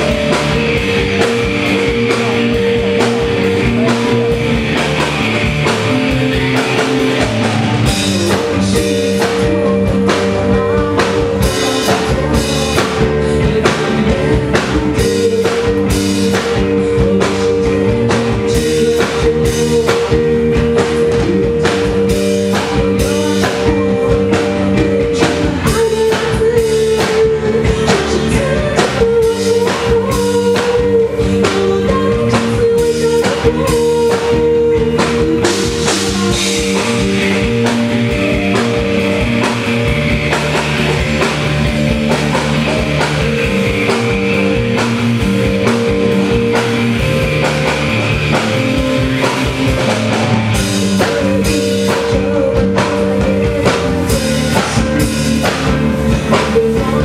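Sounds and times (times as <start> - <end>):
drum kit beat: 0.0 - 57.0
rock band playing: 0.0 - 57.0.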